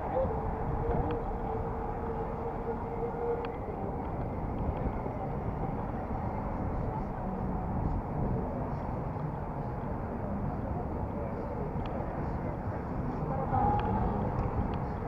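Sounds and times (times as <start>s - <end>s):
road noise: 0.0s - 15.0s
wind rumble: 0.0s - 15.0s.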